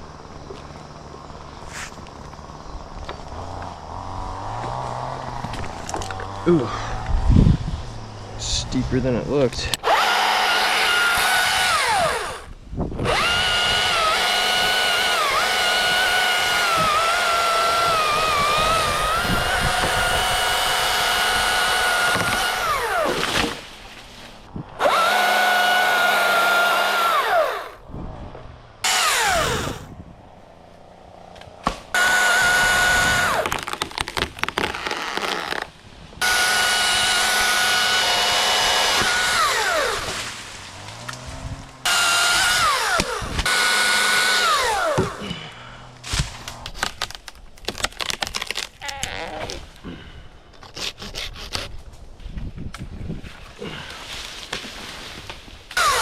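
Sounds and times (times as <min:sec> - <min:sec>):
chainsaw cutting wood: 0:03.0 - 0:07.5, 0:09.7 - 0:27.8, 0:28.8 - 0:30.0, 0:31.1 - 0:49.6, 0:50.6 - 0:51.8, 0:54.4 - 0:56.0.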